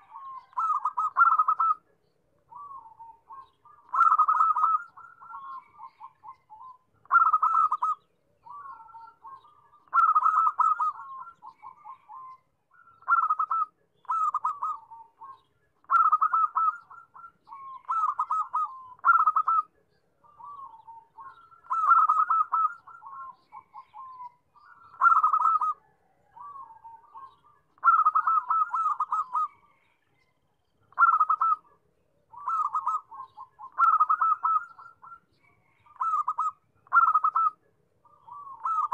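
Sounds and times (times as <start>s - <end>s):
dove cooing: 0.0s - 1.9s, 2.5s - 29.9s, 30.9s - 38.9s.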